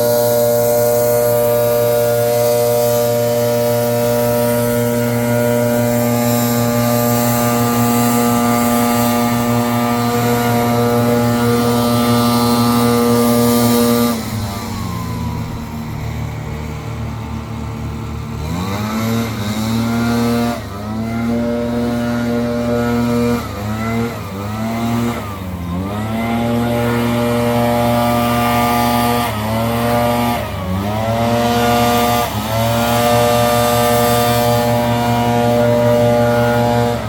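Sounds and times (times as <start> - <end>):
leaf blower engine revving: 0.0 - 37.0.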